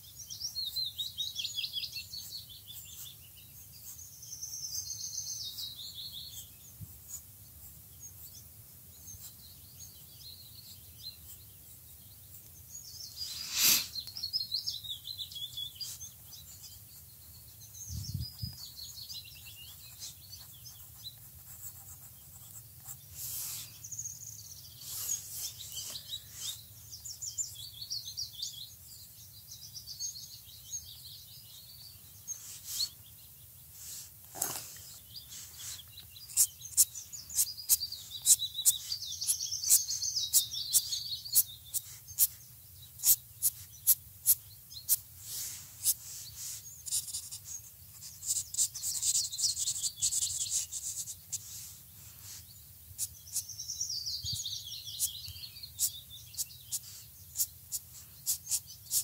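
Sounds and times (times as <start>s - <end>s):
songbirds trilling: 0.0s - 59.0s.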